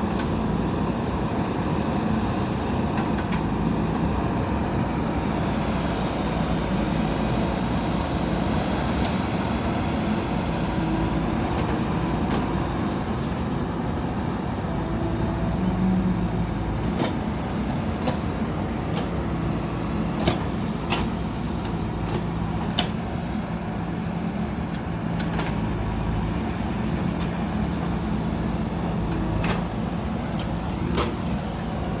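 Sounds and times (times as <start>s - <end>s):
backhoe diesel engine running: 0.0s - 32.0s.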